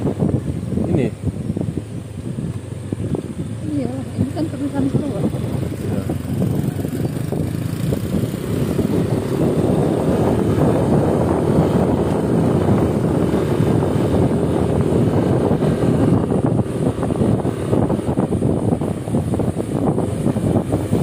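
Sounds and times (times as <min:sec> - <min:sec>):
road and wind noise: 0:00.0 - 0:21.0
scooter engine running: 0:01.6 - 0:21.0.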